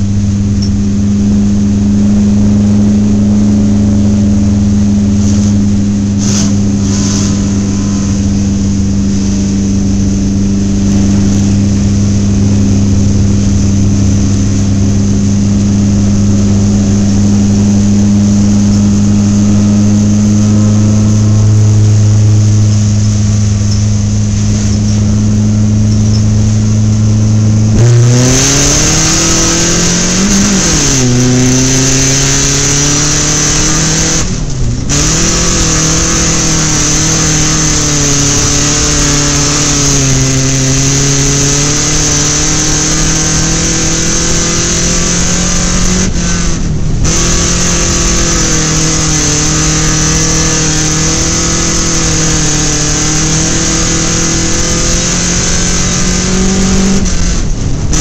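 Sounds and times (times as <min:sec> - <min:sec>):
constant rushing noise: 0:00.0 - 0:58.0
race car engine revving: 0:00.0 - 0:58.0.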